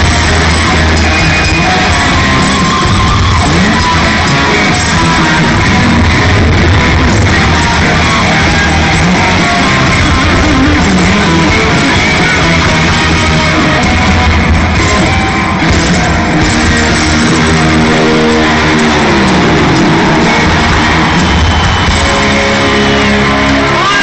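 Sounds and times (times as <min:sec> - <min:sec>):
live hard rock band: 0:00.0 - 0:24.0.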